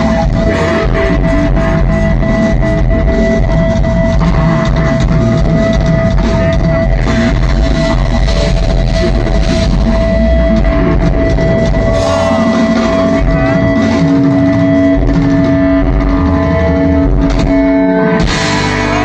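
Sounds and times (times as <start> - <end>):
live rock band playing: 0.0 - 19.0
sustained low note: 0.0 - 19.0.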